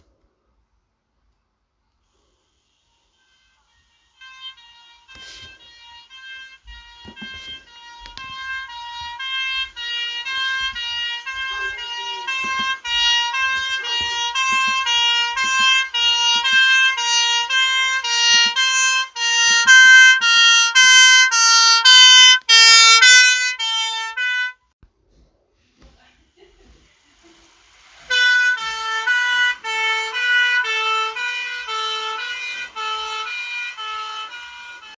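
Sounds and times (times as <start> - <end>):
ambulance two-tone siren: 2.1 - 24.8, 28.0 - 34.9.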